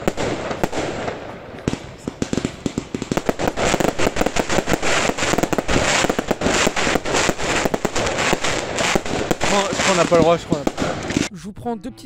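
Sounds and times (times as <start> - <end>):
fireworks bursting: 0.0 - 11.3.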